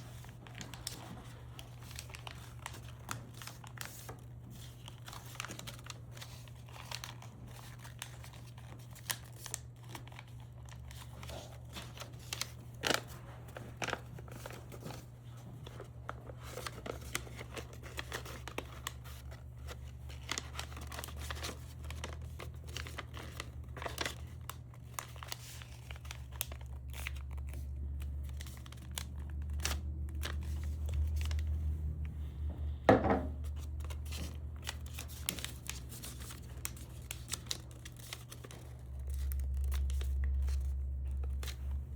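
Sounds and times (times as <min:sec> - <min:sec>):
small clicks and crinkling: 0:00.1 - 0:31.6, 0:33.6 - 0:41.9.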